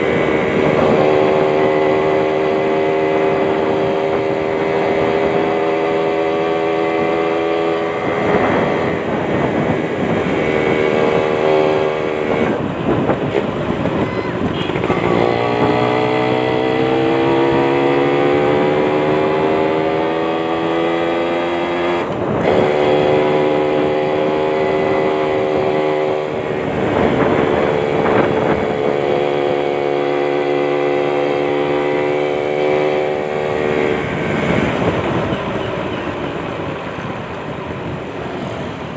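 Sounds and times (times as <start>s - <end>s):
two-stroke motorcycle engine revving: 0.0s - 36.6s.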